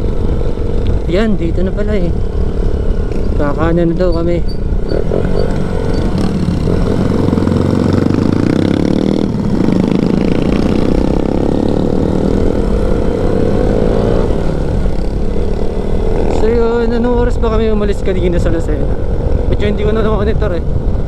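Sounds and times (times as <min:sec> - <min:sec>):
motorcycle engine running: 0:00.0 - 0:21.0
wind rumble on microphone: 0:00.0 - 0:21.0.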